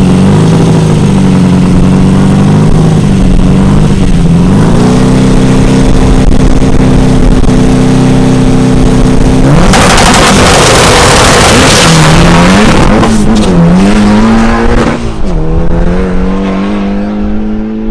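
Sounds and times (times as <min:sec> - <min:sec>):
turbocharged engine revving: 0:00.0 - 0:17.9.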